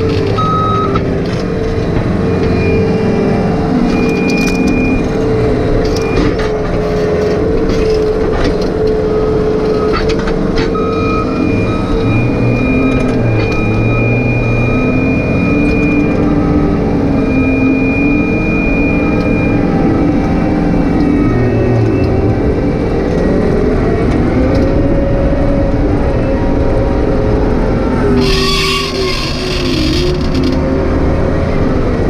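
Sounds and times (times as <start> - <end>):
excavator engine under load: 0.0 - 26.0, 26.9 - 32.0.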